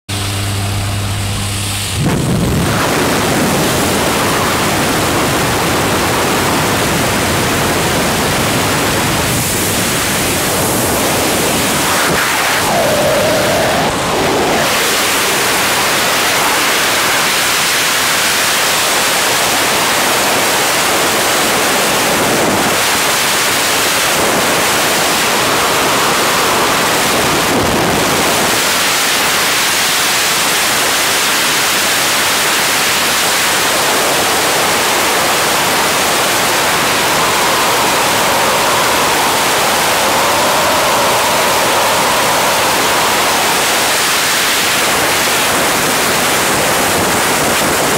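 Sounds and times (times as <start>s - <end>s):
wind rushing over microphone: 1.2s - 47.9s.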